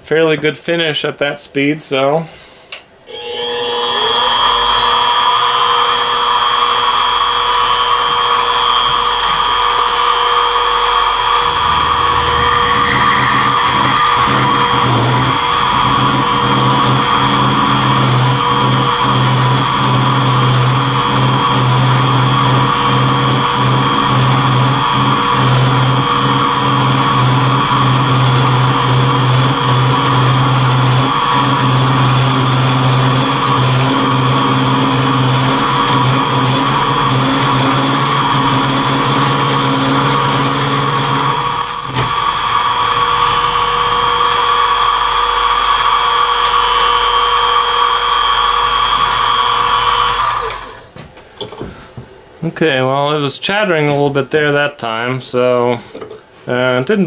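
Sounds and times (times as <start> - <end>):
spindle running high tone: 3.1 - 50.7
milling machine cutting plastic: 3.1 - 51.0.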